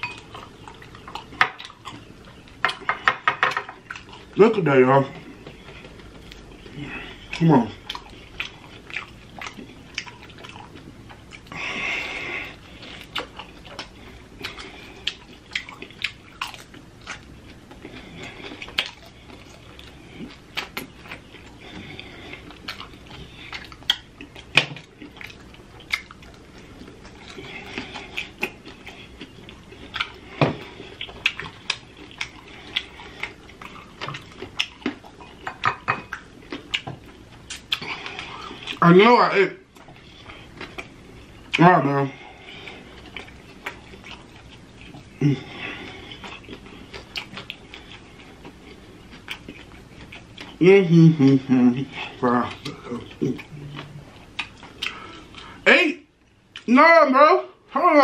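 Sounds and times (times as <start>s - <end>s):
chewing and lip-smacking: 0.0s - 3.0s, 3.8s - 38.8s, 39.6s - 50.6s, 51.4s - 55.6s, 56.2s - 56.7s.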